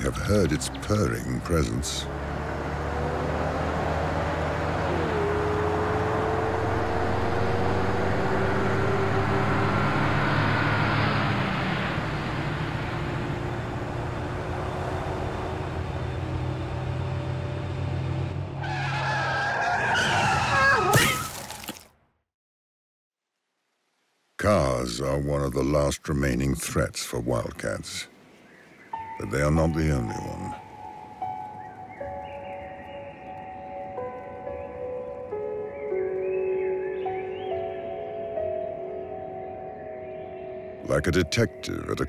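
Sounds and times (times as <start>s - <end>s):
traffic drone: 0.0s - 20.4s, 24.4s - 42.0s.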